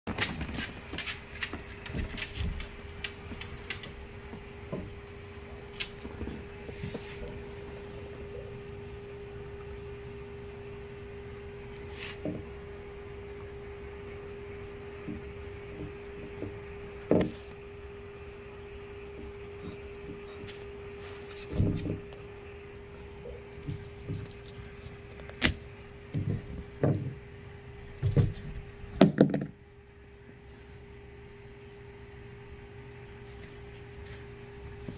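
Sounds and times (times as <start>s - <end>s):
faint steady hum: 0.1s - 34.9s.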